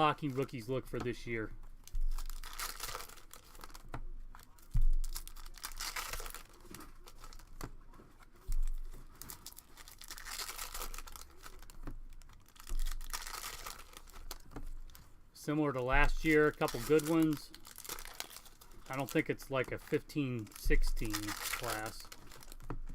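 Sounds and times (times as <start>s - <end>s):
foil wrappers tearing and crinkling: 0.0s - 7.6s, 8.2s - 15.1s, 15.9s - 19.8s, 20.4s - 22.9s.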